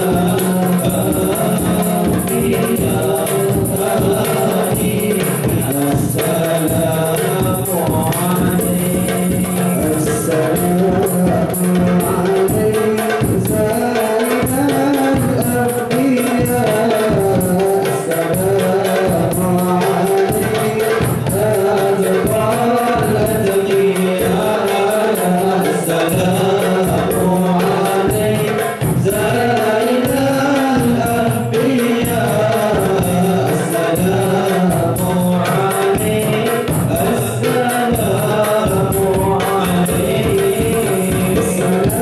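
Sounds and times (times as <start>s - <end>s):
frame drums beating: 0.0s - 42.0s
large drum: 0.0s - 42.0s
male group singing: 0.0s - 42.0s.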